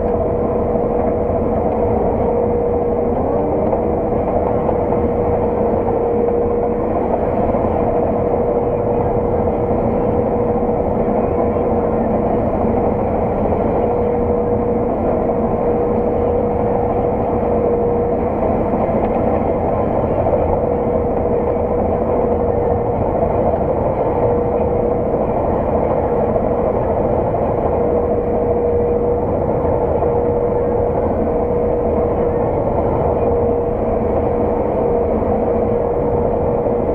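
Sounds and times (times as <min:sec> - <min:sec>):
constant machine whine: 0:00.0 - 0:36.9
harvest machine droning: 0:00.0 - 0:36.9.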